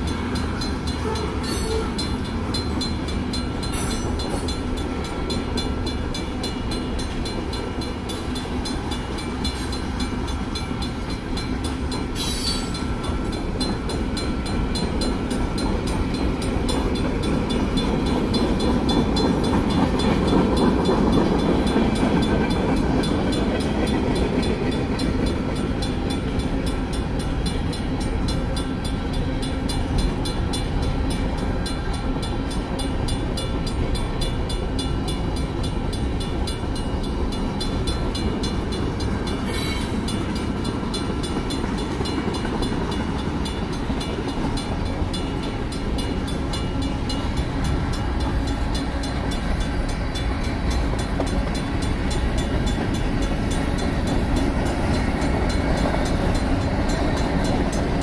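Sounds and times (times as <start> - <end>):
crossing bell ringing: 0.0 - 58.0
sharp noise from train: 0.0 - 58.0
train wheels rumbling on rails: 0.0 - 58.0.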